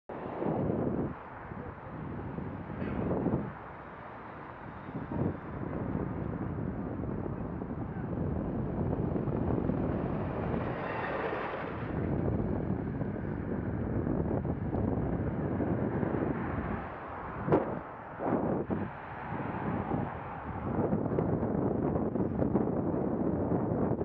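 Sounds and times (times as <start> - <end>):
road and traffic noise: 0.1 - 24.0
wind rushing over microphone: 0.1 - 24.0.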